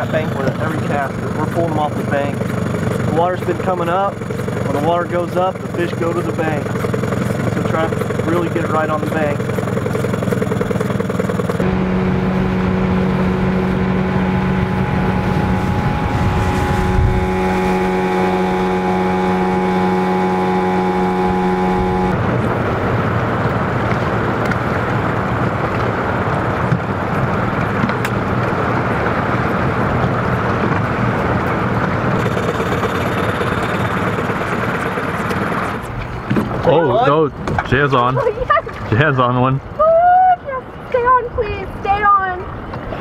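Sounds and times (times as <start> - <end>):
boat motor running: 0.0 - 43.0
wind: 0.0 - 43.0.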